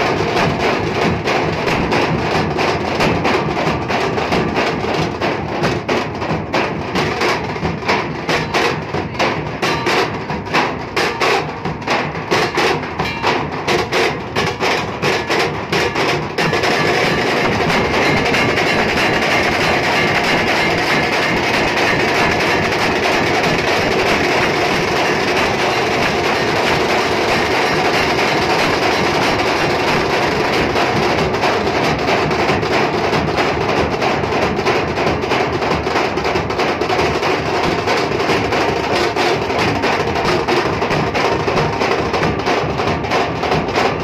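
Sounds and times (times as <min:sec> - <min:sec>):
barrel drums beaten with sticks: 0:00.0 - 0:44.0.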